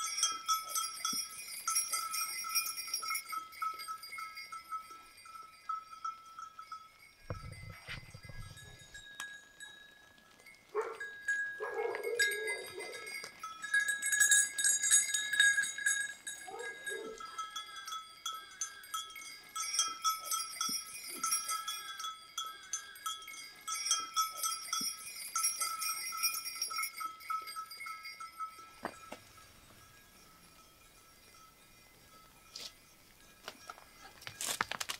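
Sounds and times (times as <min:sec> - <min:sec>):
sheep bells jingling: 0:00.0 - 0:34.9.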